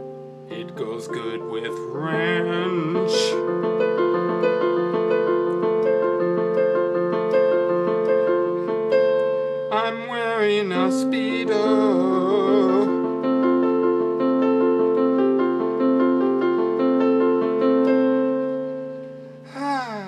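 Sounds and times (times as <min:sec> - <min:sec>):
electric keyboard playing chords: 0:00.0 - 0:19.6.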